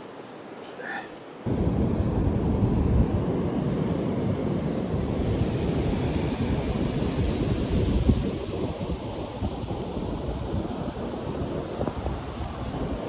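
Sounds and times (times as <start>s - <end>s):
wind buffeting microphone: 1.4s - 13.0s.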